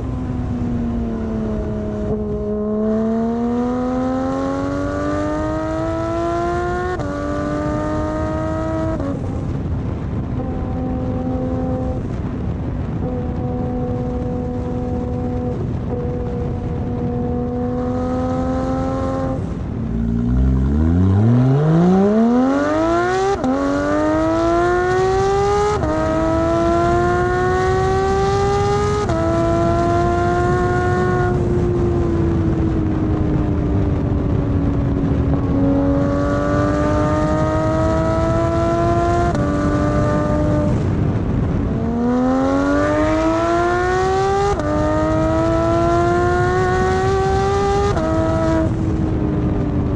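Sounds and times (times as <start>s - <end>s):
sports car engine accelerating: 0.0s - 49.9s.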